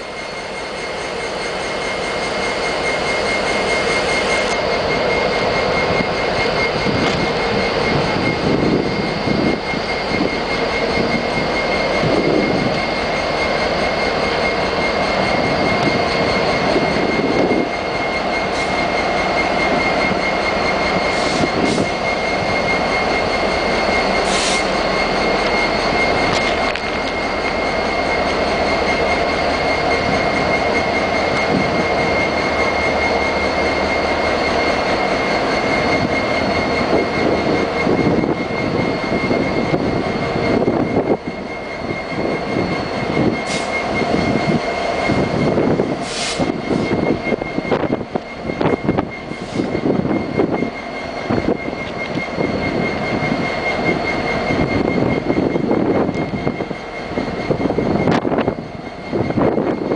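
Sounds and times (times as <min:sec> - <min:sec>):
diesel locomotives running: 0:00.0 - 0:59.9
high whine: 0:00.0 - 0:59.9.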